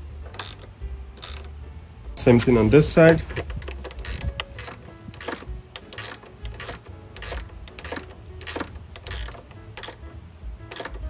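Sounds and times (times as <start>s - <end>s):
ratchet clicks: 0.3s - 1.6s, 3.0s - 11.0s.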